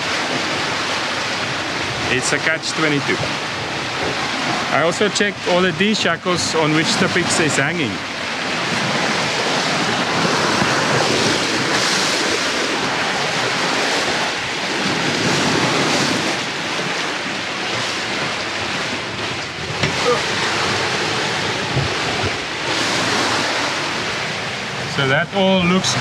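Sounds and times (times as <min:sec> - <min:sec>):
sea water rushing along hulls: 0:00.0 - 0:26.0
wind on microphone: 0:00.0 - 0:26.0.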